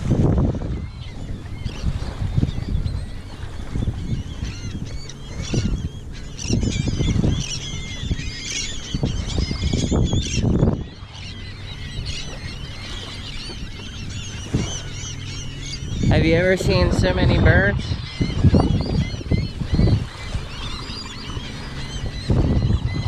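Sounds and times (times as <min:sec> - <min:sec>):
low rumbling: 0:00.0 - 0:23.0
seagulls calling: 0:00.3 - 0:23.0.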